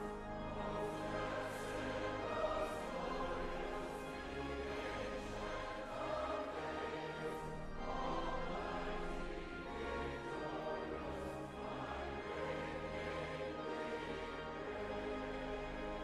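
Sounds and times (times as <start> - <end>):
choral orchestral music: 0.0 - 16.0.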